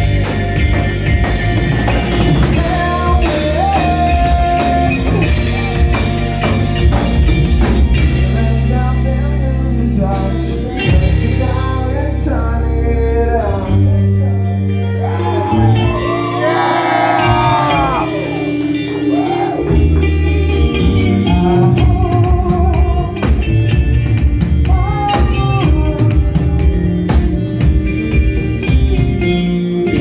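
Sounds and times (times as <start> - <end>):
person singing: 0.0 - 6.7, 8.0 - 23.6, 24.6 - 27.4
rock band playing: 0.0 - 30.0.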